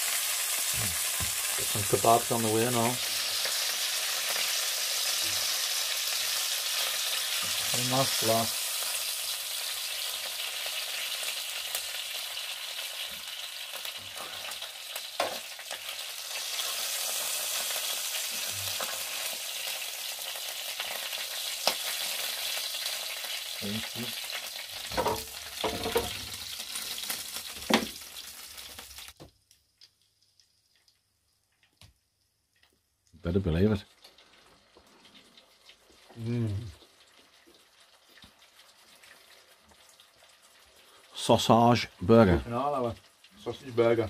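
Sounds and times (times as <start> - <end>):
meat sizzling in hot oil: 0.0 - 44.0.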